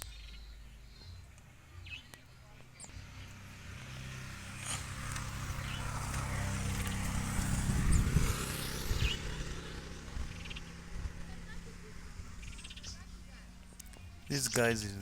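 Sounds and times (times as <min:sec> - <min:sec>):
vehicle engine passing by: 0:01.5 - 0:15.0.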